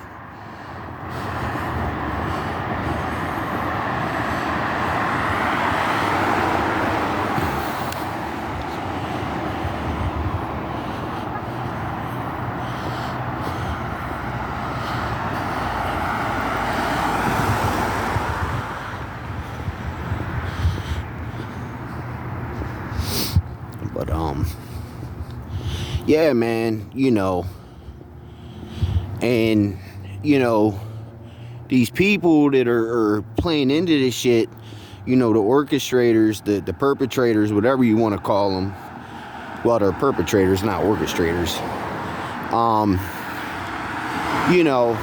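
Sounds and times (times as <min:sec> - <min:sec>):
cars passing by: 0:00.0 - 0:45.0.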